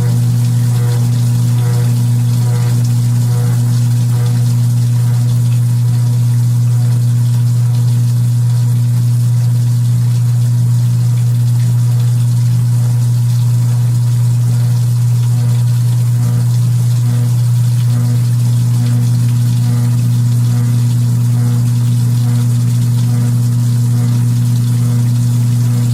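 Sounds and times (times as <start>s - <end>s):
faint water noise: 0.0s - 25.9s
washing machine motor hum: 0.0s - 25.9s.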